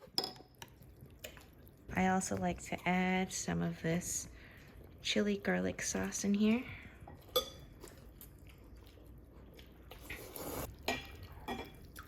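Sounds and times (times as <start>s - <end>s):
sauce spooned and mixed into soup: 0.0s - 12.0s.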